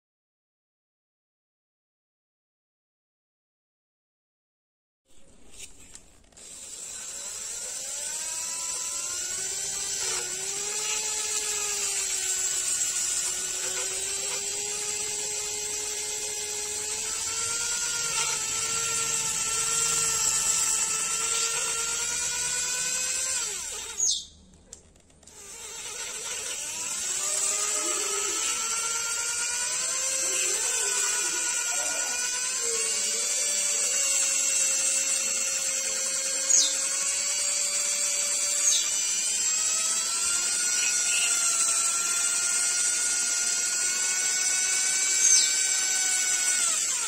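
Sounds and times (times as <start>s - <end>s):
power-tool motor whining: 5.2s - 47.0s.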